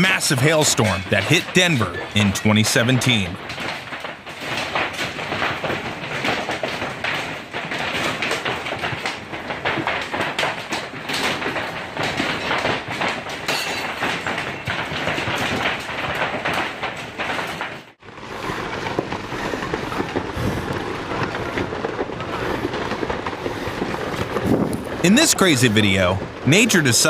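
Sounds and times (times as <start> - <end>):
heavy hail clattering: 0.0 - 27.0.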